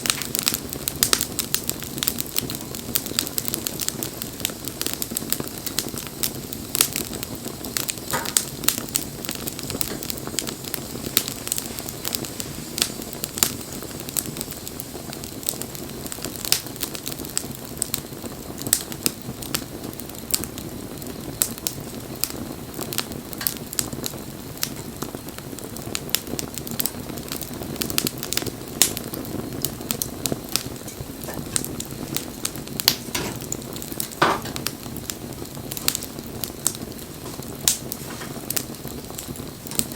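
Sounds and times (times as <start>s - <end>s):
burning wood popping: 0.0s - 39.9s
flame rushing: 0.0s - 39.9s
wood fire crackling: 0.0s - 39.9s.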